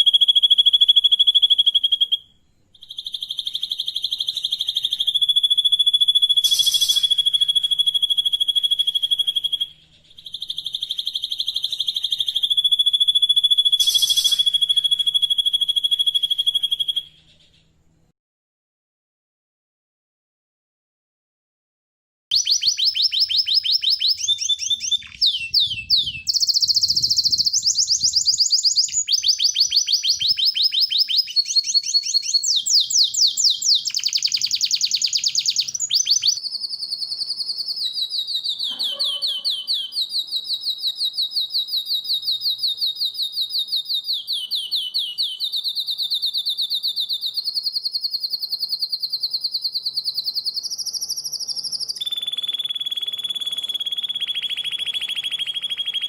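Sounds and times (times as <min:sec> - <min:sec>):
songbird trilling: 0:02.8 - 0:17.5, 0:22.3 - 0:56.0.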